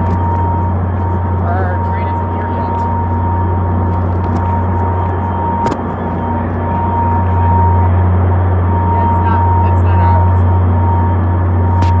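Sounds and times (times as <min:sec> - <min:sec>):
diesel locomotives idling: 0:00.0 - 0:12.0
thin high whine: 0:00.0 - 0:12.0.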